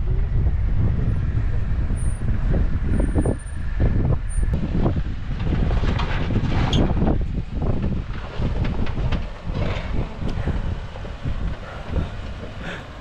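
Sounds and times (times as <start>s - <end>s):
off-road vehicle engine running low: 0.0s - 13.0s
wind buffeting microphone: 0.0s - 13.0s.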